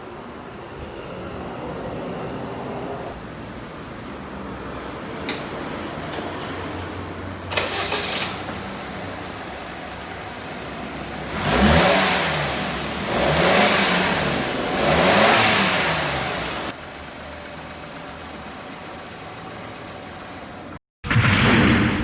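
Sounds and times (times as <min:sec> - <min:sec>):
car engine idling and revving: 0:03.1 - 0:20.8.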